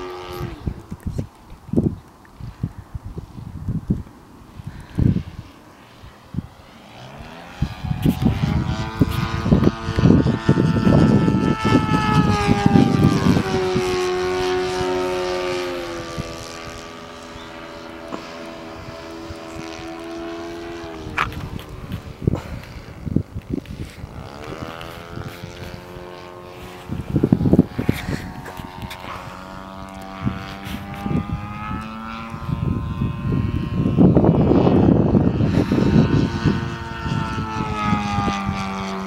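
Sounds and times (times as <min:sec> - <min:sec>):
model plane engine flying overhead: 0:00.0 - 0:39.0
wind buffeting microphone: 0:00.0 - 0:39.0.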